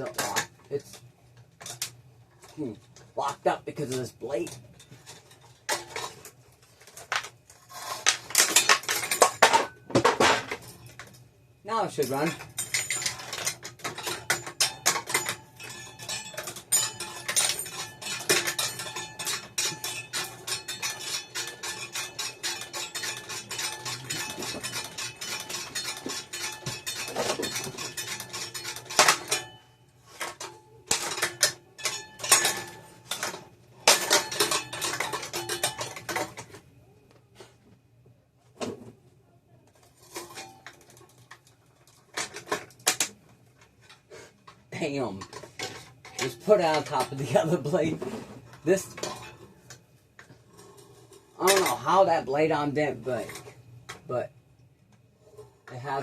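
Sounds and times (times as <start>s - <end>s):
ceiling fan blades clattering: 0.0s - 37.4s, 39.7s - 56.0s.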